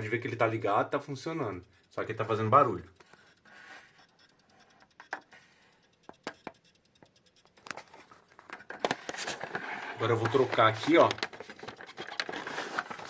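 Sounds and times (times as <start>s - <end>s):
handling clicks and scratches: 0.4s - 13.0s.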